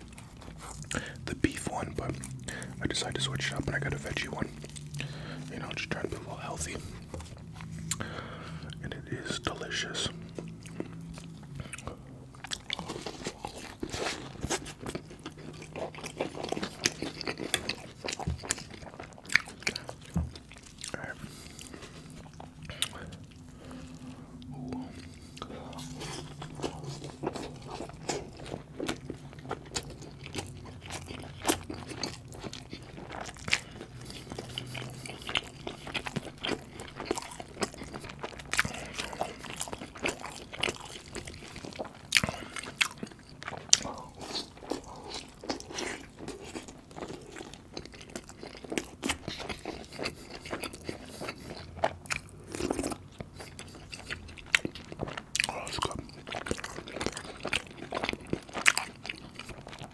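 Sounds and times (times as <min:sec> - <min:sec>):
chewing with wet mouth clicks: 0:00.0 - 0:59.9.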